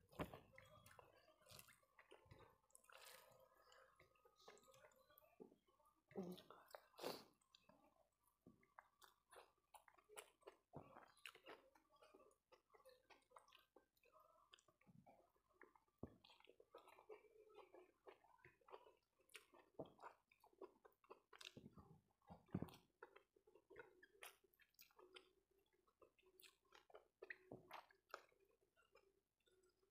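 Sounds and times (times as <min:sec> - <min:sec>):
close chewing: 0:00.1 - 0:05.4, 0:06.3 - 0:29.9.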